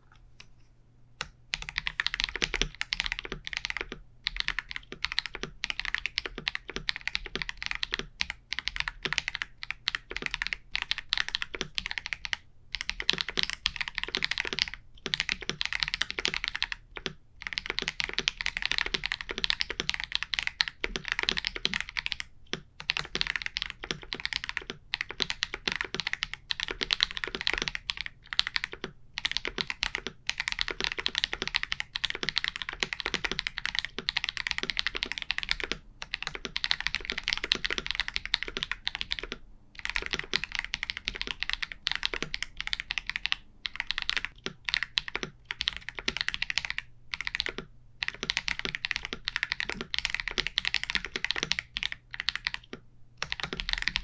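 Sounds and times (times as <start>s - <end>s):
mechanical keyboard typing: 1.2s - 54.0s.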